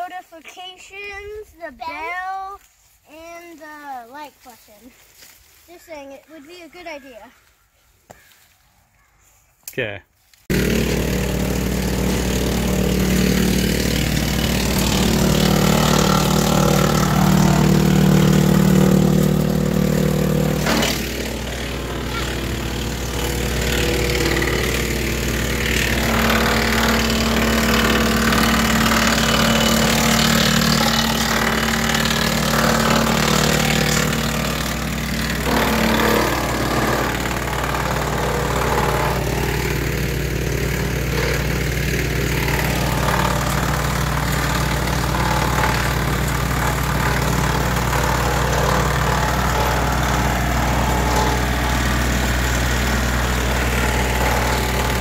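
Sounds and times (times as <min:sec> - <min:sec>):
wood chipper engine running: 0:10.5 - 0:55.0.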